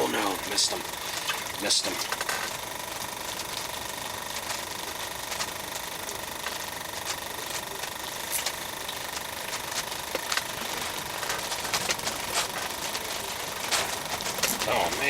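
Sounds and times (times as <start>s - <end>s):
electric motor buzzing hum: 0.0s - 15.0s.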